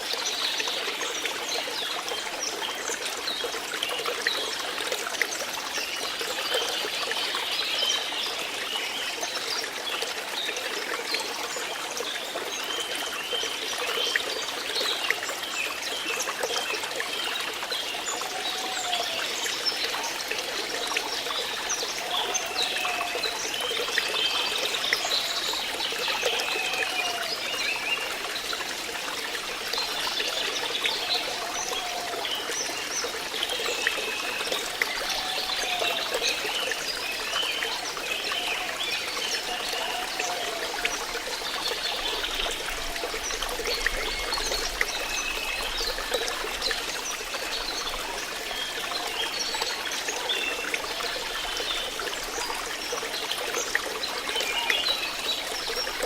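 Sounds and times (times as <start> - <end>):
water trickling and flowing: 0.0 - 56.0.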